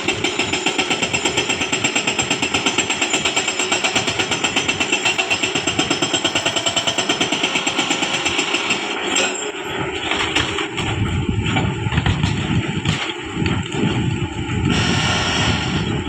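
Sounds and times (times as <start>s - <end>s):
hydraulic rock breaker hammering: 0.0s - 14.0s
excavator engine running: 0.0s - 16.0s.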